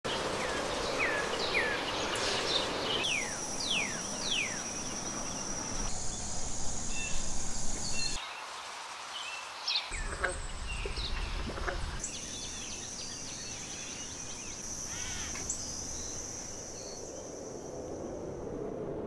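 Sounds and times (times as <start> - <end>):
insect buzz: 0.1 - 18.6
high insect drone: 0.1 - 18.9.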